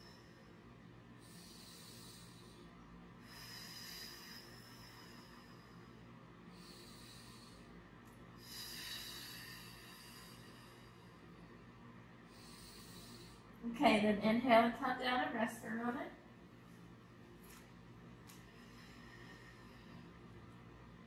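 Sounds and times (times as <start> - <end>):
slow soft breathing: 0.0 - 13.6, 16.6 - 20.8
low room hum: 0.0 - 21.0.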